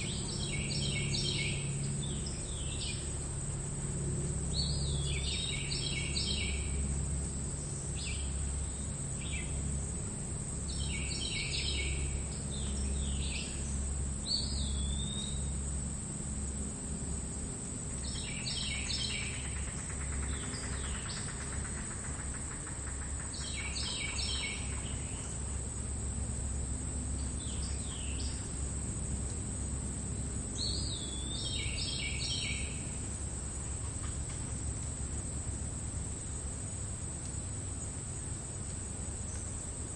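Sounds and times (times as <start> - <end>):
songbird singing: 0.0 - 15.8, 16.8 - 39.9
crickets trilling: 0.0 - 39.9
low steady rumble: 0.0 - 39.9.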